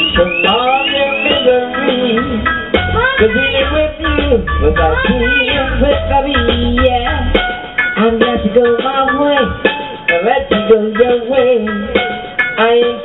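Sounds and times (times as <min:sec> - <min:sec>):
backing track: 0:00.0 - 0:13.0
woman singing reggae: 0:00.0 - 0:13.0.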